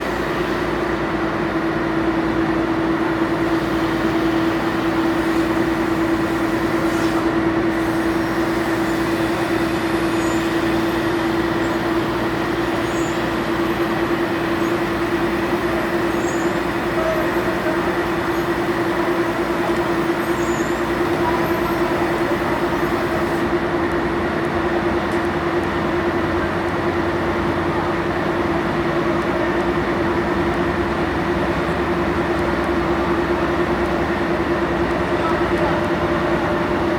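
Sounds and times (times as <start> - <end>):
ship engines droning: 0.0 - 36.9.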